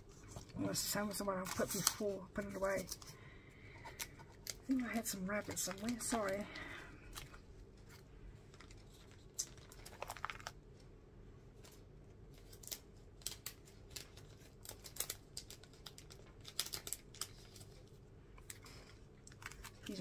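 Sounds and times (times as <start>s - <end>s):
plastic sleeve pages crinkling: 0.1s - 10.9s, 11.6s - 20.0s.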